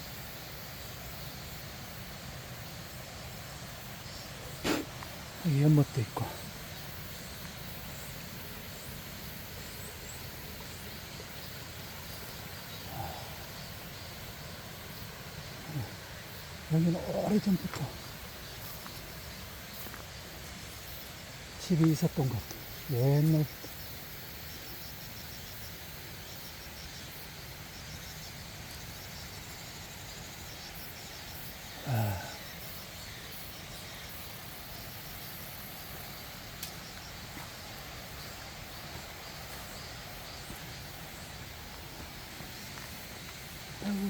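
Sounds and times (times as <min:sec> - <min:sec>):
stream water rushing: 0:00.0 - 0:24.5, 0:27.0 - 0:43.9.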